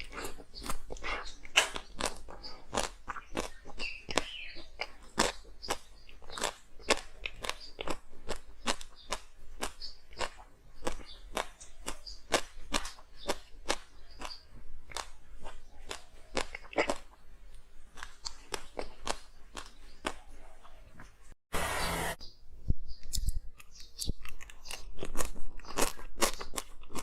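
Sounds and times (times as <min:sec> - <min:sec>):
ice being crunched and chewed: 0:00.0 - 0:20.4, 0:23.1 - 0:27.0.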